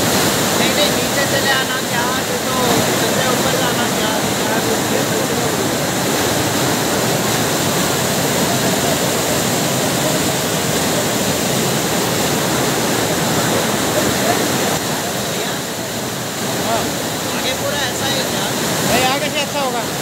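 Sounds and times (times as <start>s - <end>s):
floodwater rushing down stairs: 0.0s - 20.0s.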